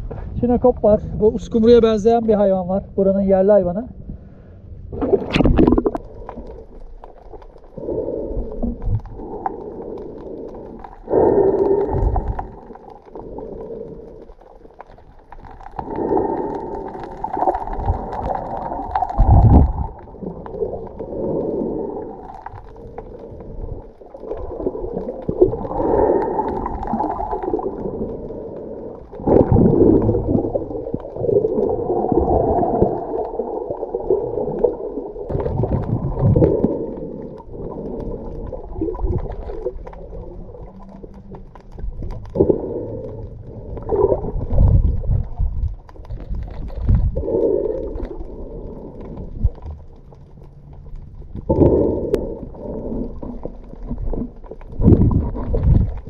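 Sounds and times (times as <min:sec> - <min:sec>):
muffled water sloshing underwater: 0:00.0 - 0:03.2, 0:03.8 - 0:56.0.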